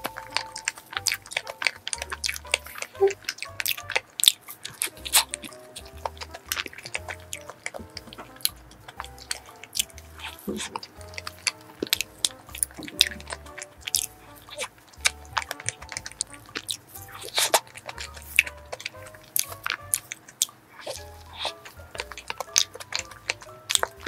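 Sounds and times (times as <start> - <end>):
background music: 0.0 - 24.0
chewing and biting cake: 0.0 - 24.0
wet mouth clicks: 0.0 - 24.0.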